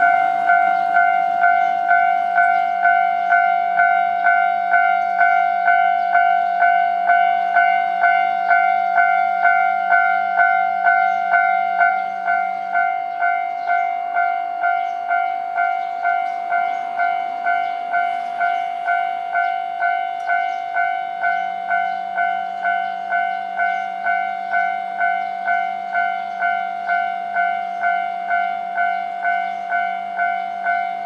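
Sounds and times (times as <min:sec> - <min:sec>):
level-crossing warning bell ringing: 0:00.0 - 0:31.0
train passing over rails: 0:00.0 - 0:31.0.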